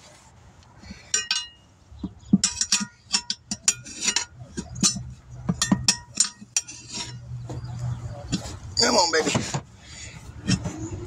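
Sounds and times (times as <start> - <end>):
metal tire tools clinking and scraping: 0.1 - 11.0.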